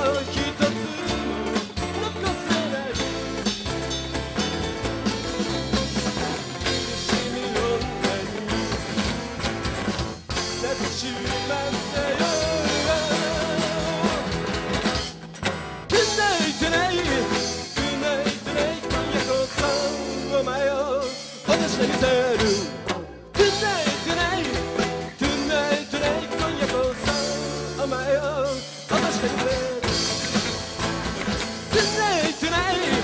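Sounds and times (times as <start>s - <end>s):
man singing with vibrato: 0.0s - 3.4s, 5.7s - 9.2s, 10.4s - 14.7s, 15.9s - 30.4s, 31.7s - 33.0s
live rock band playing: 0.0s - 33.0s.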